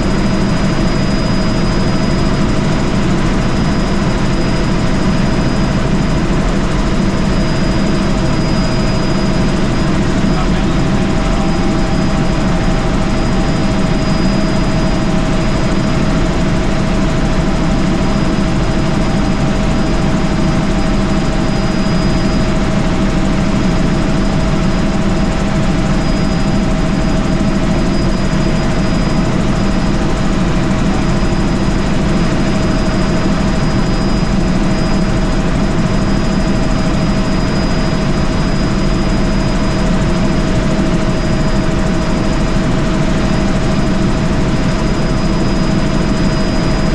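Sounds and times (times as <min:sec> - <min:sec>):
faint high whine: 0:00.0 - 0:46.9
helicopter rotor and engine rumble: 0:00.0 - 0:46.9
mid-pitched whine: 0:00.0 - 0:46.9.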